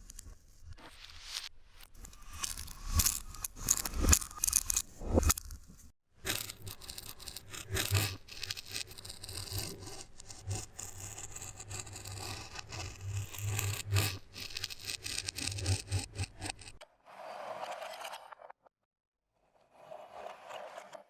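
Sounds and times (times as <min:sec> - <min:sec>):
reversed scraping and rasping: 0:01.1 - 0:18.6, 0:19.5 - 0:21.0.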